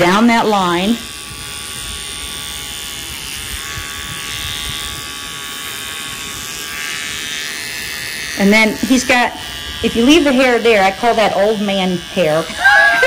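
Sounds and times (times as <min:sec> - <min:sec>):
pet clipper buzzing: 0:00.0 - 0:13.0.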